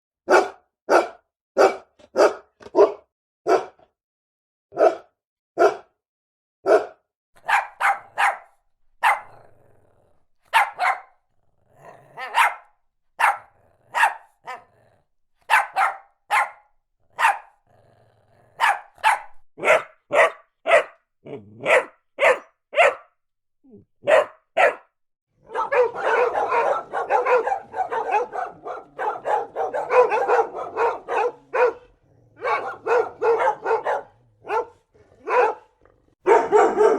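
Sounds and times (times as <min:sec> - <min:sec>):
dog barking: 0:00.3 - 0:04.0, 0:04.7 - 0:06.0, 0:06.6 - 0:09.7, 0:10.4 - 0:11.2, 0:11.8 - 0:17.6, 0:18.5 - 0:23.2, 0:24.0 - 0:36.9.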